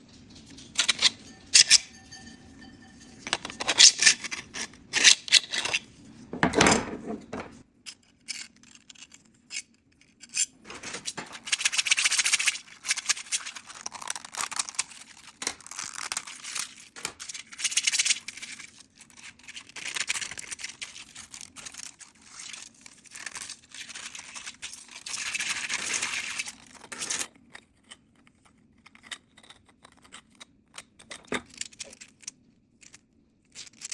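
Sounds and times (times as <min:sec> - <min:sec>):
plastic parts rattling and spinning: 0:00.2 - 0:01.8, 0:03.2 - 0:27.3, 0:31.0 - 0:33.9.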